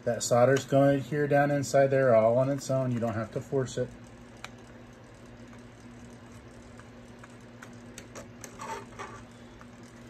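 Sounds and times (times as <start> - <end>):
low steady hum: 0.0 - 10.0
solder crackling on iron tip: 0.2 - 10.0.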